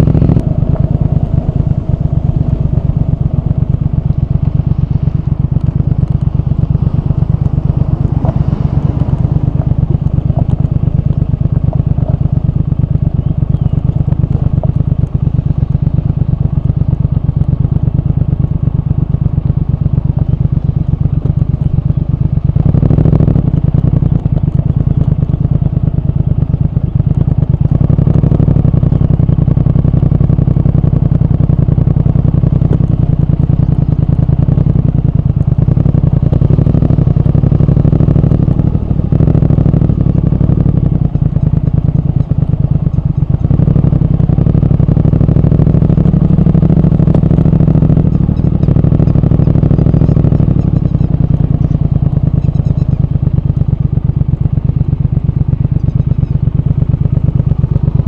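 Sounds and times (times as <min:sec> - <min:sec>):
motorcycle engine and exhaust running: 0:00.0 - 0:58.0.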